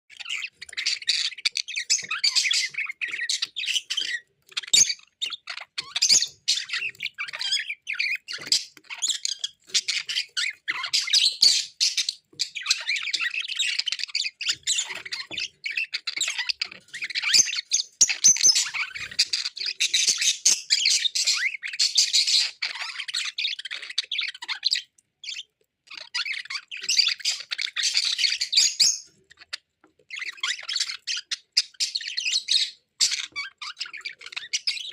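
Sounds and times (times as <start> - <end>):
budgerigar warbling and chattering: 0.1 - 34.9.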